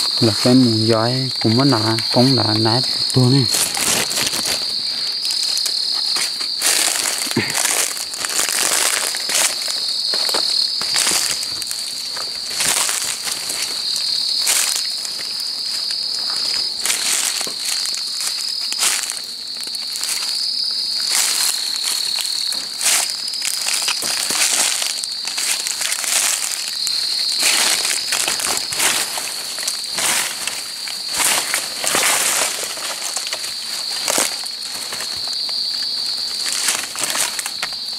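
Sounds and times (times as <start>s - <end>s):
crunching leaf litter and twigs: 0.0s - 37.9s
night insects chirring: 0.0s - 37.9s.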